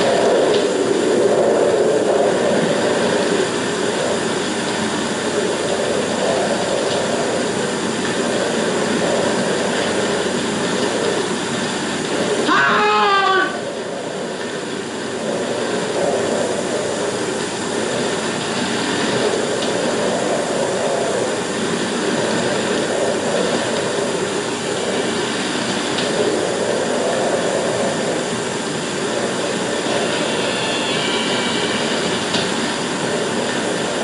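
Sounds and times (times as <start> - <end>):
wind rushing: 0.0 - 34.0.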